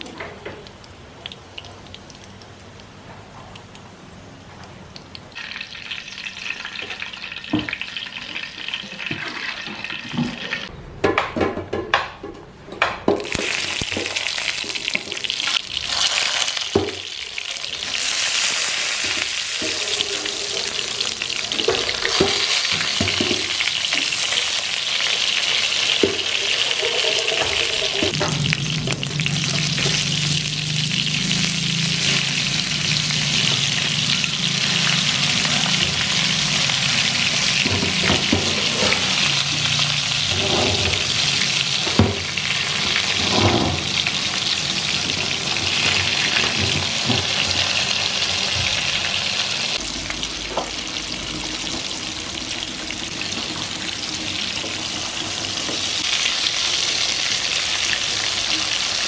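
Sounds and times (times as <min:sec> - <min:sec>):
food sizzling in oil: 0:05.3 - 0:10.7, 0:13.2 - 0:59.0.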